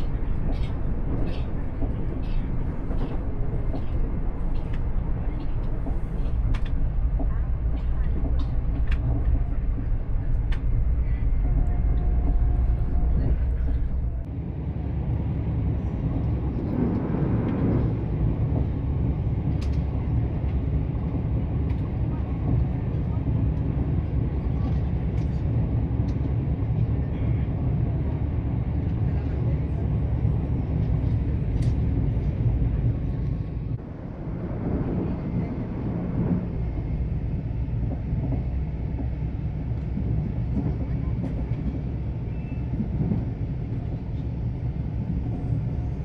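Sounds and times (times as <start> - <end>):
train rumble inside carriage: 0.0 - 46.0.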